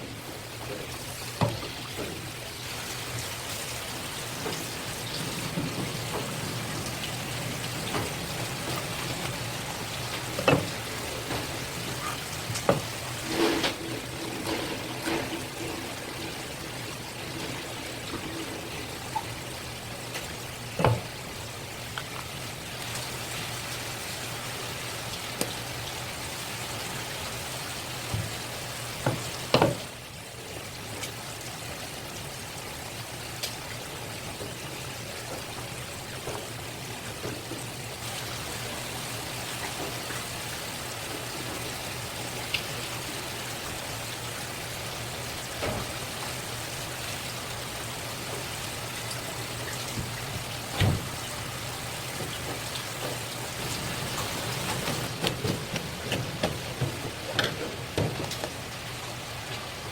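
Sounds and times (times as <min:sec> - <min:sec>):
running water hissing: 0:00.0 - 0:59.9.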